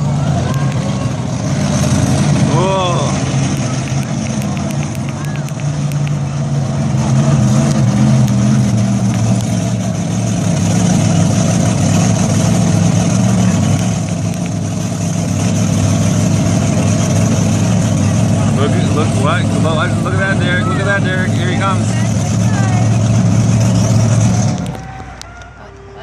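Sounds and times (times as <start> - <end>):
truck engine running loudly: 0.0 - 26.0.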